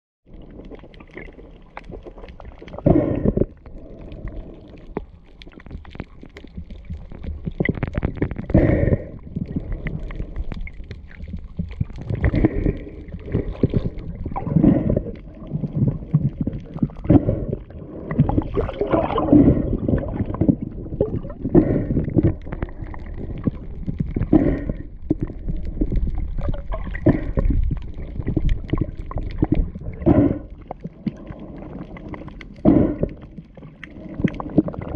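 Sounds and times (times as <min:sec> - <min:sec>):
underwater gurgling and bubbling: 0:00.3 - 0:34.9.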